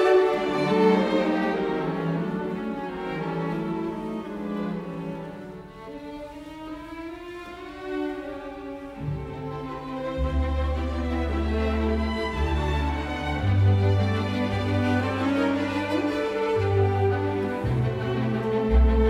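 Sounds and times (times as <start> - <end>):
violin and cello melody: 0.0 - 19.0.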